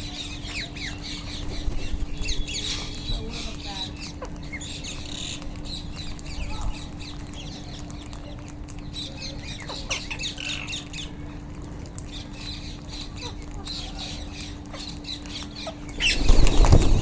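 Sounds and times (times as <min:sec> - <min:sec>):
parakeets squawking and chirping: 0:00.0 - 0:17.0.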